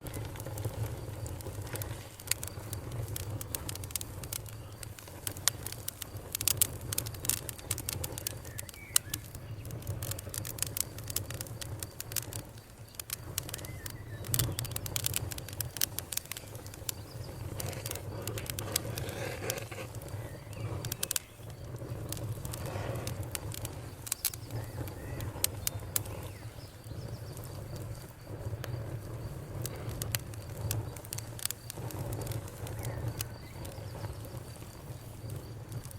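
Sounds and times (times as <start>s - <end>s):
wood fire crackling and popping: 0.0s - 35.9s.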